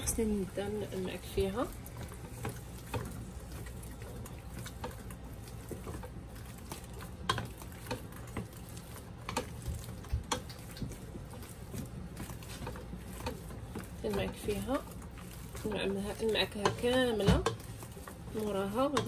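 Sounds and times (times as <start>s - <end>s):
potato masher knocking and squishing: 0.0s - 19.0s.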